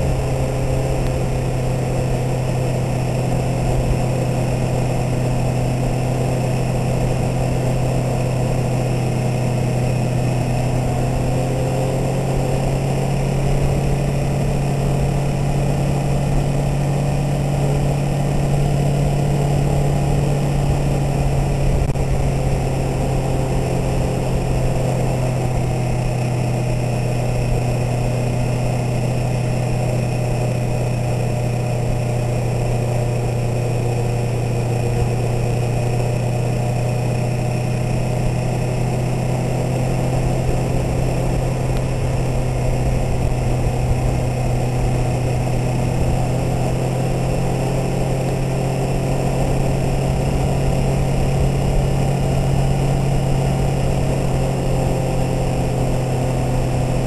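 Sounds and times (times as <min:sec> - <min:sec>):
motorcycle engine running: 0:00.0 - 0:57.0
wind and road rumble: 0:00.0 - 0:57.0.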